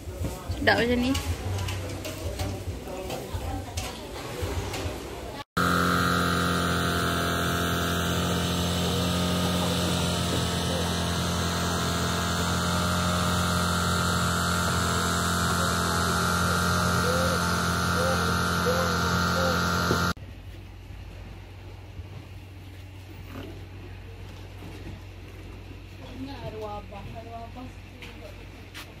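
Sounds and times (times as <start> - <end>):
engine droning steadily: 5.0 - 28.6.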